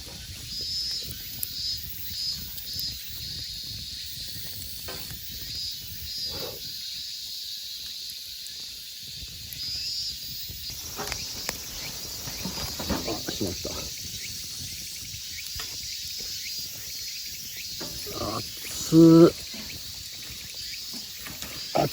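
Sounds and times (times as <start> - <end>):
campfire hissing: 0.0 - 21.9
insects chirping: 0.0 - 21.9.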